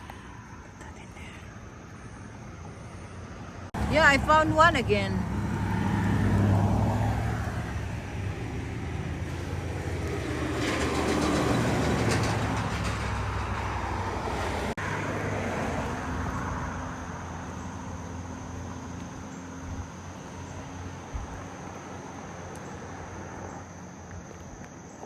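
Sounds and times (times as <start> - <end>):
vehicle engine drone: 0.0 - 25.0.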